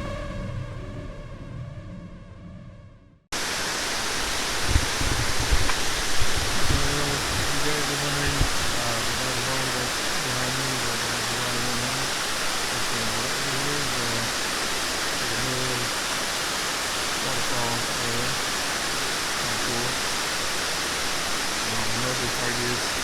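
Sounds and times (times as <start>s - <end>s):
loud rushing noise: 3.4s - 23.0s.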